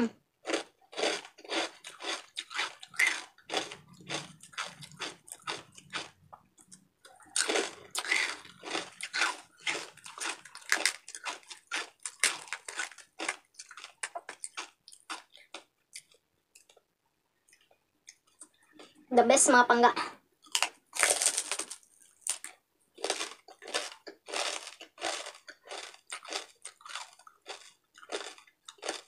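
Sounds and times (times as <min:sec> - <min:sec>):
crunchy chewing: 0:00.4 - 0:16.8, 0:20.4 - 0:29.0.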